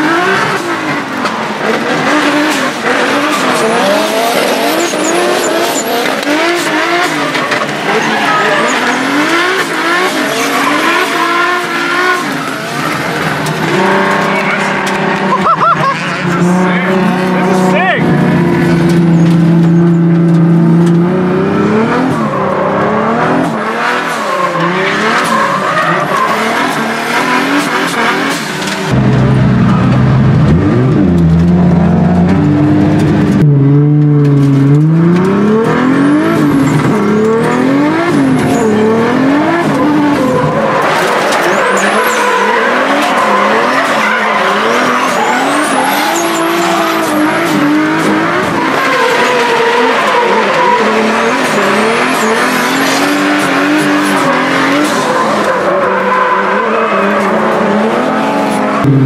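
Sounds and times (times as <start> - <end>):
tyres squealing and skidding: 0.0 - 20.8, 21.5 - 30.4, 35.4 - 58.9
car engine revving hard: 0.0 - 59.0.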